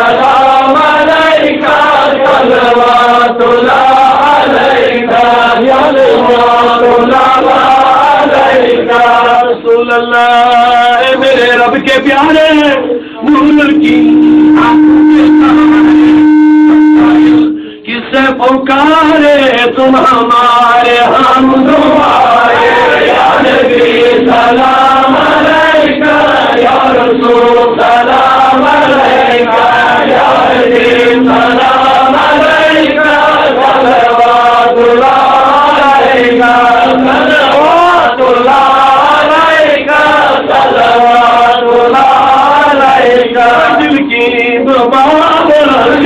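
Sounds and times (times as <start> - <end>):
men chanting: 0.0 - 16.2, 16.8 - 46.0.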